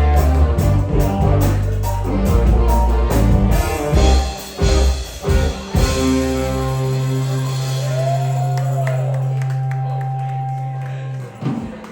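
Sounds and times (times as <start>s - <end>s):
live rock band playing: 0.0s - 11.9s.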